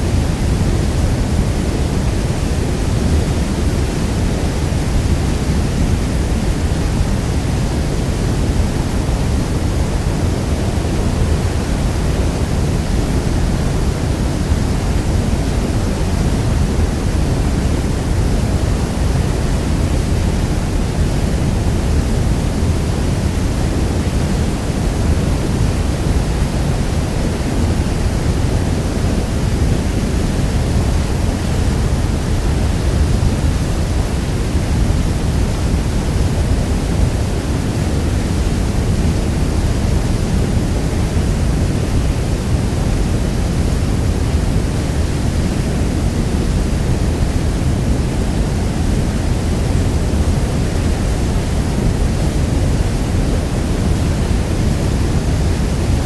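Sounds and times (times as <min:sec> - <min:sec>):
waterfall thundering: 0:00.0 - 0:56.0.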